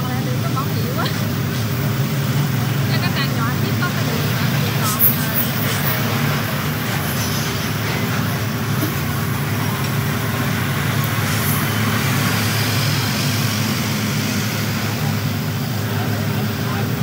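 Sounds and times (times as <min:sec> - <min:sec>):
truck engine rumble: 0:00.0 - 0:17.0
tyre and road noise: 0:00.0 - 0:17.0.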